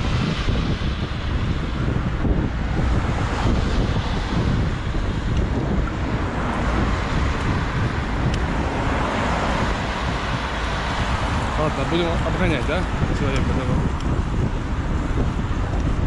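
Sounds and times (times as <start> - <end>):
road and traffic rumble: 0.0 - 16.0
wind buffeting on microphone: 0.0 - 16.0.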